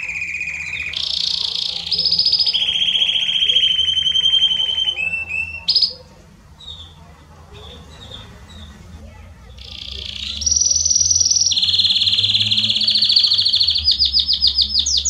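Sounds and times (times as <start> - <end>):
canary singing rolling trills: 0.0 - 15.0
faint bird chirps: 0.0 - 15.0.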